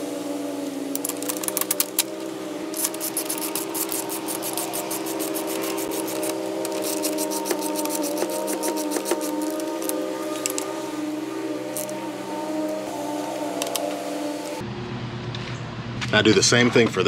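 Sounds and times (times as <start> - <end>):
steady background tone: 0.0 - 16.5.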